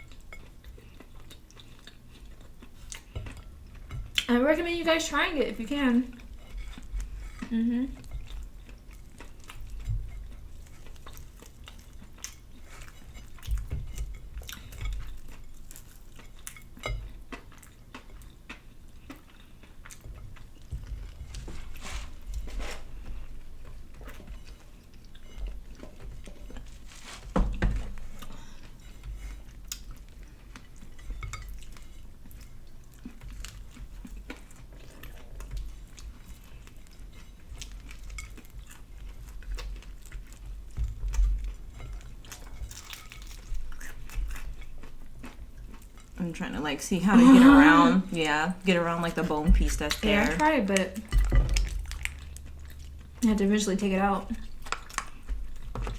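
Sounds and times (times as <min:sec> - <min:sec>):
chewing and biting: 0:06.2 - 0:46.2, 0:49.9 - 0:53.2, 0:54.4 - 0:55.9.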